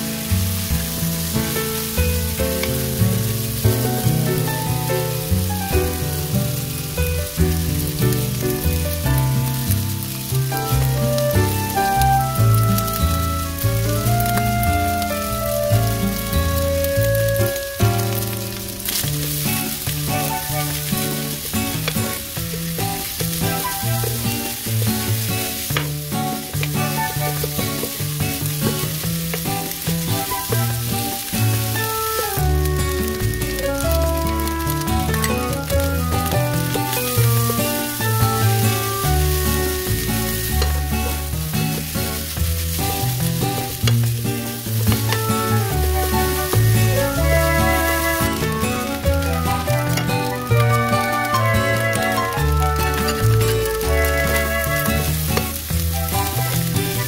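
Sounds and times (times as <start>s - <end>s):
background music melody: 0.0s - 57.0s
rice sizzling in a frying pan: 0.0s - 57.0s.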